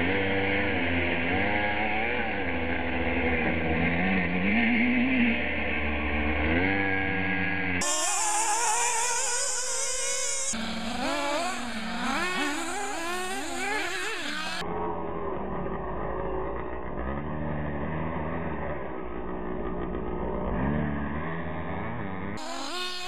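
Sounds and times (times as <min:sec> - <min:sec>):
rc car engines revving: 0:00.0 - 0:23.0.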